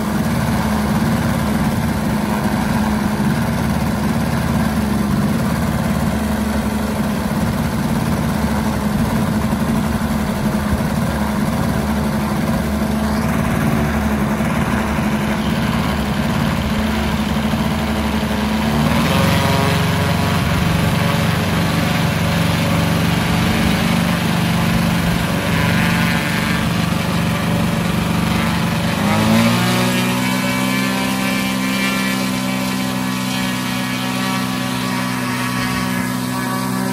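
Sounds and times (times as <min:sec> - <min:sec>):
model plane engine idling: 0:00.0 - 0:36.9.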